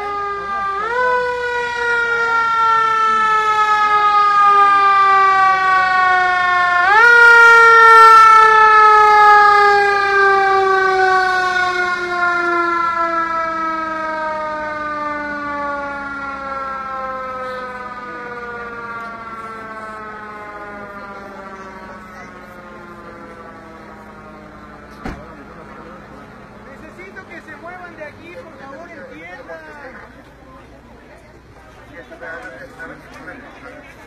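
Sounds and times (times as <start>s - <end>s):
emergency vehicle siren wailing: 0.0s - 30.3s.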